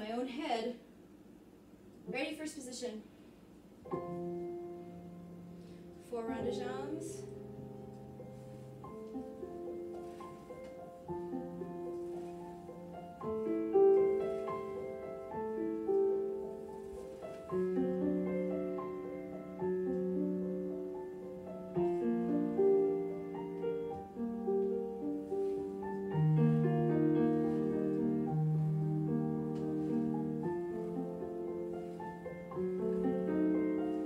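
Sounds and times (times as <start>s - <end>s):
solo piano music: 3.8s - 34.0s.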